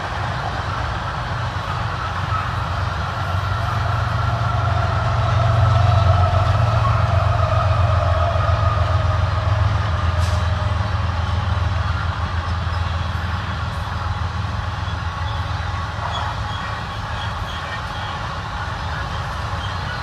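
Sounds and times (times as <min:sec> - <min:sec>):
diesel locomotive engine rumble: 0:00.0 - 0:20.0
train wheel noise: 0:00.0 - 0:20.0.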